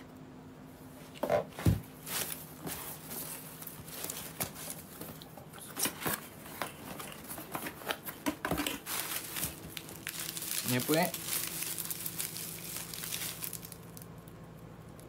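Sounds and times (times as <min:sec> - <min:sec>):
rustling of packaged items: 0:01.0 - 0:15.0.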